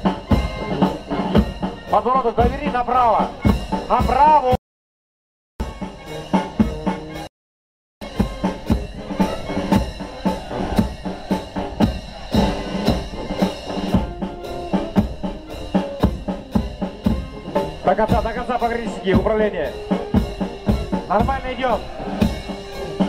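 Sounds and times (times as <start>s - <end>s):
troops marching: 0.0s - 4.5s, 8.0s - 23.0s
military march music: 0.0s - 4.6s, 5.6s - 7.3s, 8.0s - 23.0s
steady drum beat: 0.0s - 4.6s, 5.6s - 7.3s, 8.0s - 23.0s.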